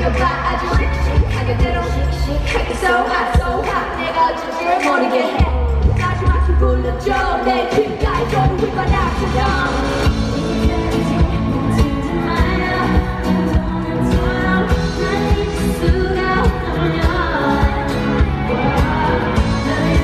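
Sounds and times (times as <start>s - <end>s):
female vocals singing: 0.0s - 20.0s
pop backing track: 0.0s - 20.0s.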